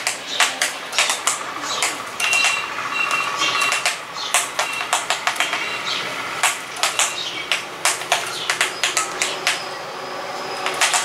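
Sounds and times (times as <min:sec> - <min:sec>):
beaks tapping on glass: 0:00.0 - 0:09.8, 0:10.6 - 0:11.0
sparrow chirps: 0:00.0 - 0:11.0.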